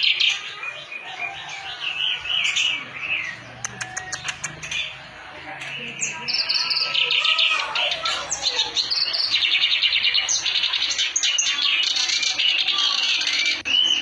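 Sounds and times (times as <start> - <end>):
reed warbler singing: 0.0 - 14.0.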